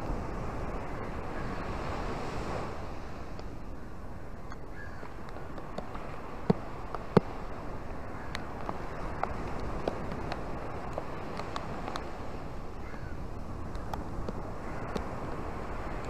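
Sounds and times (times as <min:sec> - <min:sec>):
ocean surf rushing: 0:00.0 - 0:16.0.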